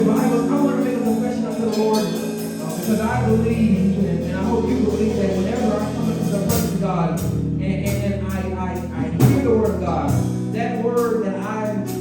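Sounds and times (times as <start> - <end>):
church band music: 0.0 - 12.0
person singing or speaking: 0.0 - 12.0.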